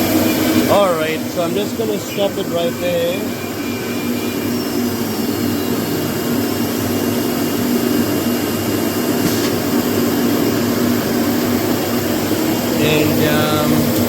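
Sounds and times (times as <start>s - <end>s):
dust extraction vacuum whooshing: 0.0s - 14.0s
faint high whine: 0.0s - 14.0s
low hum: 0.0s - 14.0s.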